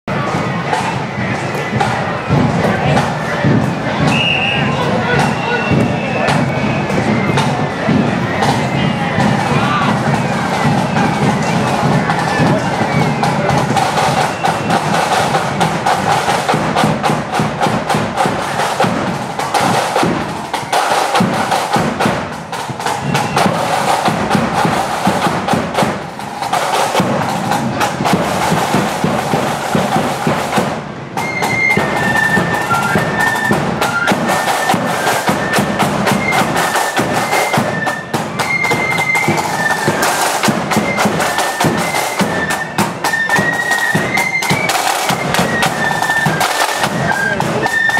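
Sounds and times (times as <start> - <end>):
marching drums: 0.1 - 47.9
shrill flute melody: 0.1 - 47.9.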